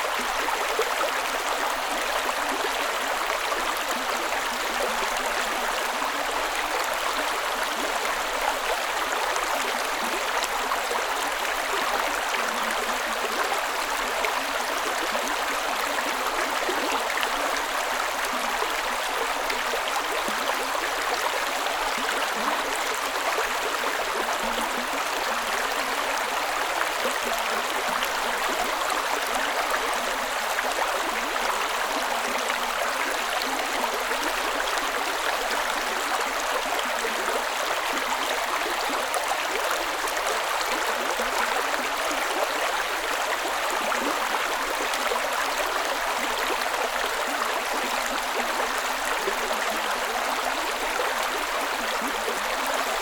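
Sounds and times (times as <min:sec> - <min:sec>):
creek water rushing over rocks: 0:00.0 - 0:53.0.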